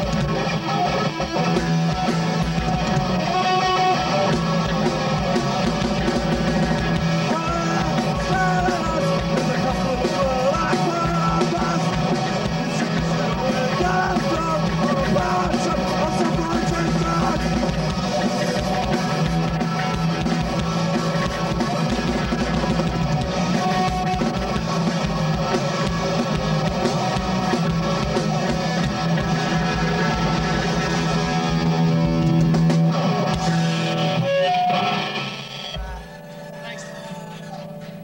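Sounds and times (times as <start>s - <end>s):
electric bass: 0.0s - 36.4s
drum kit beat: 0.0s - 38.0s
electric guitar: 0.0s - 38.0s.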